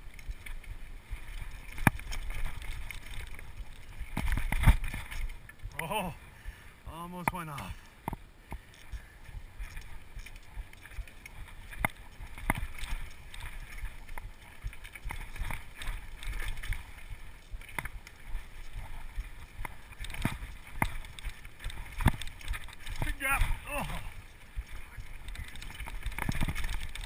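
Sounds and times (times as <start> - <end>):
bike rattling over rocks: 0.0 - 6.1, 7.1 - 27.0
mountain bike rumbling on trail: 0.0 - 27.0.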